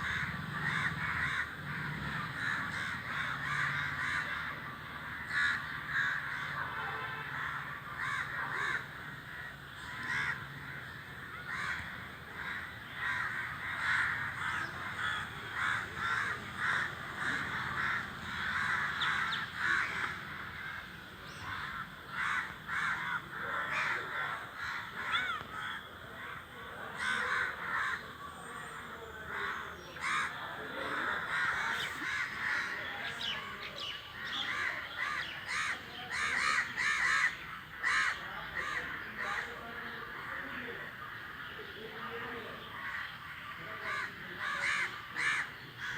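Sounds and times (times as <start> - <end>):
crows cawing: 0.0 - 40.3, 42.7 - 45.9.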